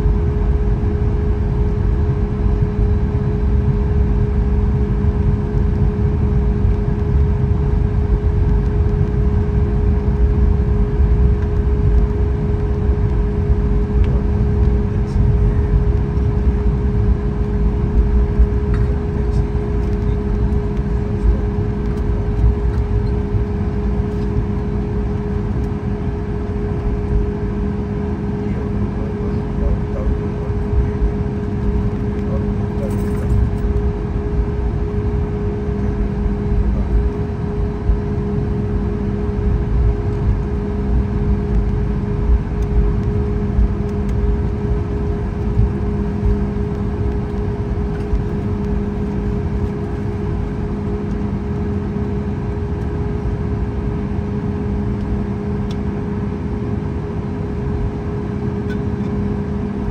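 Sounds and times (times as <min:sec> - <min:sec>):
low uneven rumble: 0:00.0 - 0:55.7
engine hum in aircraft cabin: 0:00.0 - 0:59.9.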